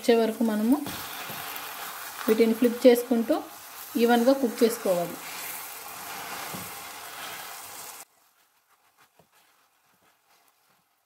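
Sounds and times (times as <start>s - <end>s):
fruit sizzling in syrup: 0.0s - 11.0s.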